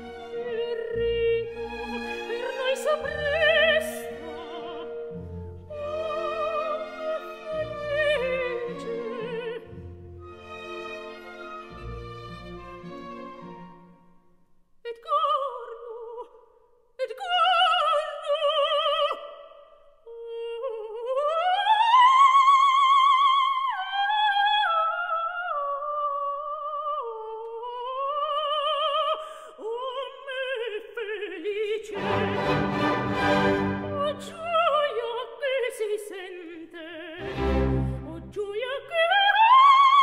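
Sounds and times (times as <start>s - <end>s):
operatic soprano singing: 0.0s - 9.8s, 14.9s - 16.4s, 17.0s - 40.0s.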